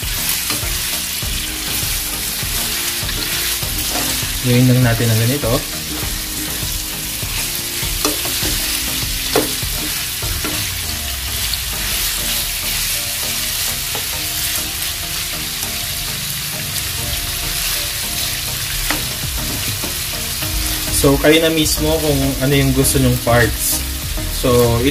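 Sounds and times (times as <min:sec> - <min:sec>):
chicken sizzling in oil: 0:00.0 - 0:24.9.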